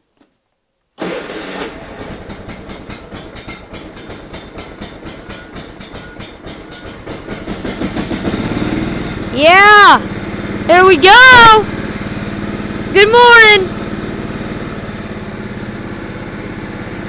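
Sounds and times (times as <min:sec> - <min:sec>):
engine cranking: 0:01.0 - 0:17.0
lawn tractor engine running: 0:01.0 - 0:17.0.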